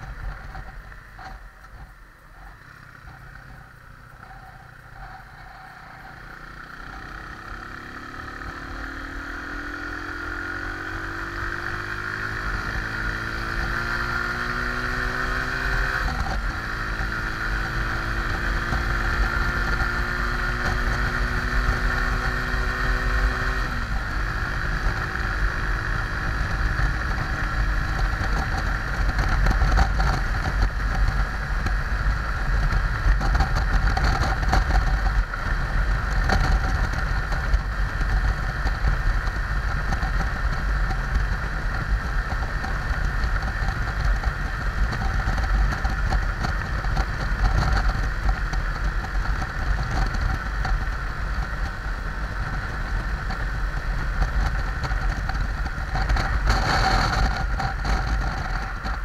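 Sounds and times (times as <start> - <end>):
wind rumble on microphone: 0.0 - 7.9, 8.5 - 59.0
motorcycle engine running: 0.0 - 59.0.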